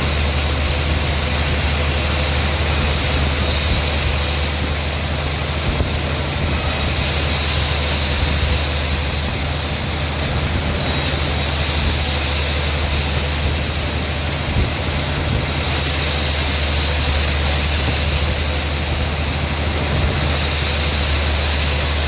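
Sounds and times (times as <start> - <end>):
sawmill machinery humming: 0.0 - 22.0.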